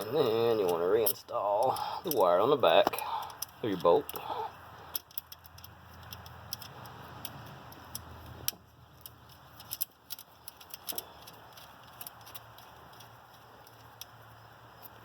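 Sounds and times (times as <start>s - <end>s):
metallic clicks of hand wrench: 0.0s - 15.0s.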